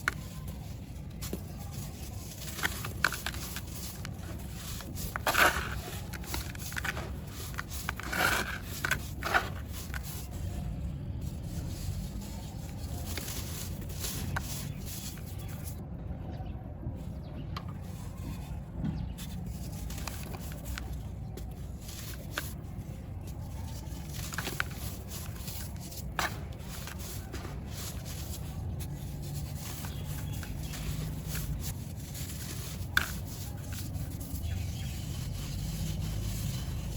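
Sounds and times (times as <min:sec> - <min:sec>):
dry material crumbled by hand: 0:00.0 - 0:15.8, 0:17.8 - 0:36.9
low background rumble: 0:00.0 - 0:36.9.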